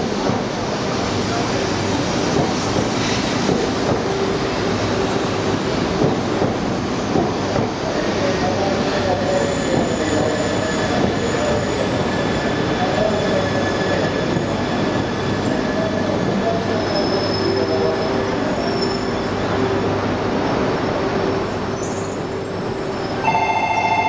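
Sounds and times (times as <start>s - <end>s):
train rumbling slowly: 0.0s - 24.0s.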